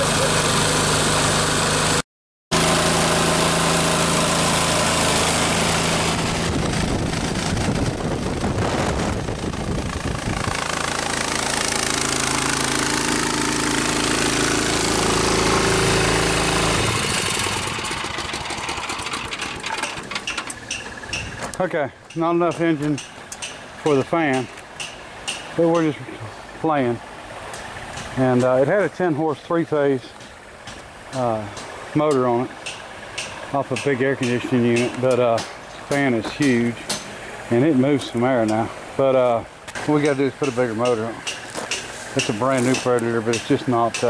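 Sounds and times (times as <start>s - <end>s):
gasoline engine labouring: 0.0s - 44.0s
blower fan rushing air: 2.6s - 44.0s.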